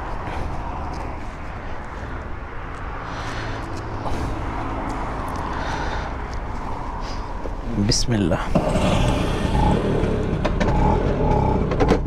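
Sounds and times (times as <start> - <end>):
vehicle engine and traffic: 0.0 - 12.0.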